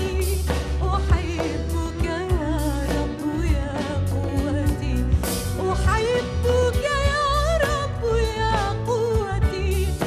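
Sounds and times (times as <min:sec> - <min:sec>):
instrumental backing with beat: 0:00.0 - 0:10.0
woman singing a hymn: 0:00.0 - 0:10.0.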